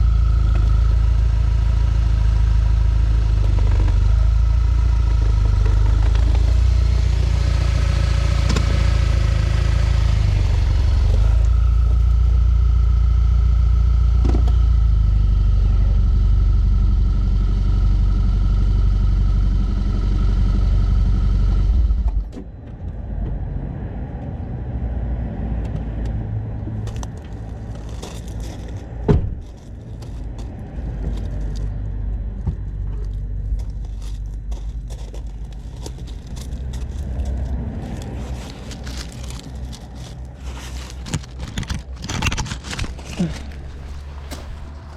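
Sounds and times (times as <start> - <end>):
drivetrain rattling rumble: 0.0 - 24.4, 25.5 - 44.9
car noise: 0.0 - 44.9.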